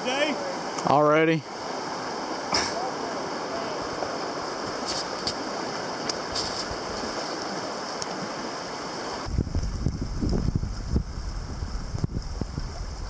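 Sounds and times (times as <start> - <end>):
river water over riffles: 0.0 - 13.0
water splashes: 0.0 - 13.0.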